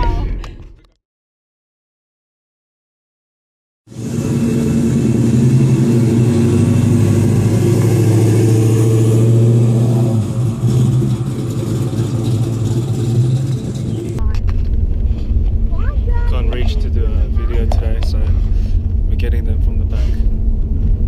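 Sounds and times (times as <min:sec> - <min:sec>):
car engine running loudly: 0:03.9 - 0:21.0.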